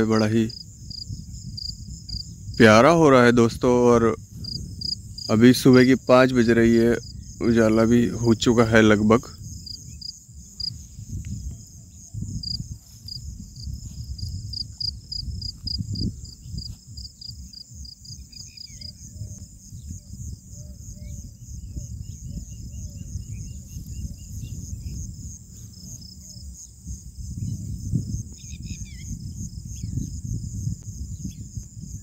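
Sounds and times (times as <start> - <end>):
insects chorus: 0.0 - 32.0
wind rumble on microphone: 0.0 - 32.0.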